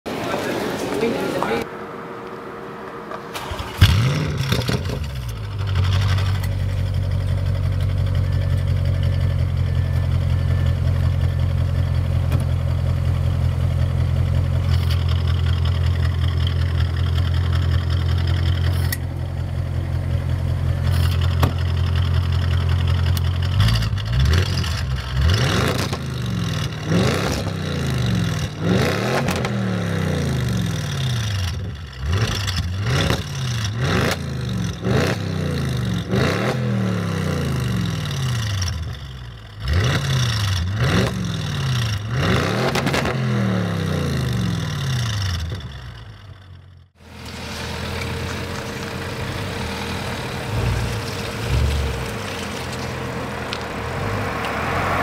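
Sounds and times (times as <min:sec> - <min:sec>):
car engine idling and revving: 0:01.5 - 0:55.0.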